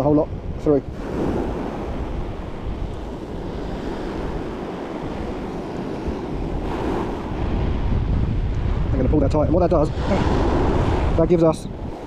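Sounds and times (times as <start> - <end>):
waves washing onto beach: 0.0 - 12.0
wind noise on microphone: 0.0 - 12.0.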